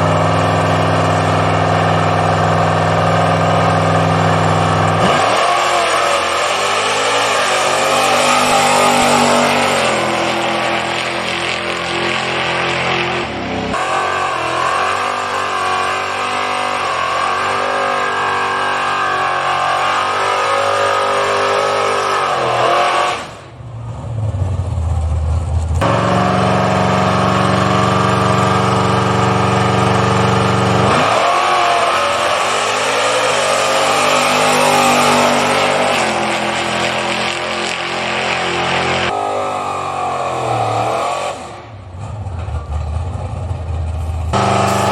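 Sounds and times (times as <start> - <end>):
race engine revving: 0.0 - 23.5, 25.8 - 42.0, 44.0 - 44.9.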